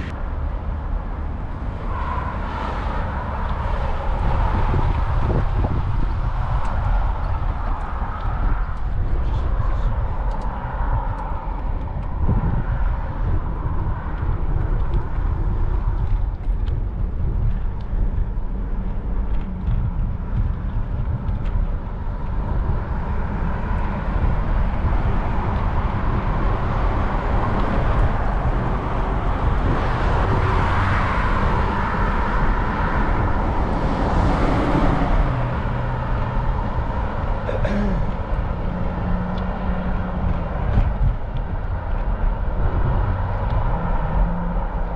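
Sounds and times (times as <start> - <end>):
car passing: 0.0 - 16.2, 18.2 - 44.9
road traffic: 0.0 - 44.9
wind rumbling on microphone: 0.0 - 44.9.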